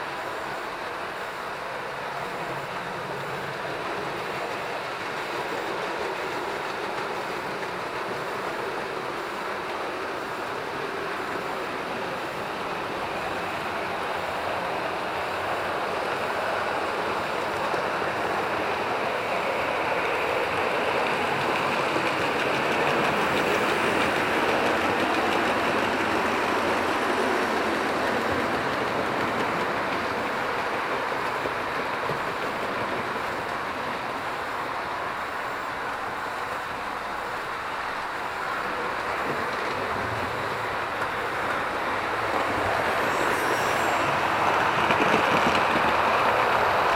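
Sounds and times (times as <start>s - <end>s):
model train rolling whirr: 0.0s - 46.9s.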